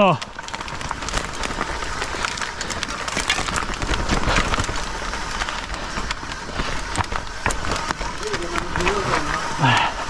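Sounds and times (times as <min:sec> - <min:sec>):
bike clicking and rattling: 0:00.0 - 0:10.0
bike tyres on rough ground: 0:00.0 - 0:10.0.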